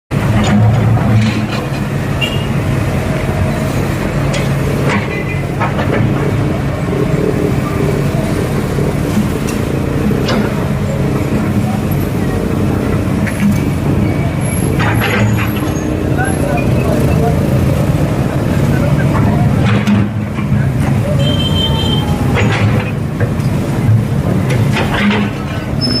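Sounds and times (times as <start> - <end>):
backhoe engine running: 0.1 - 26.0.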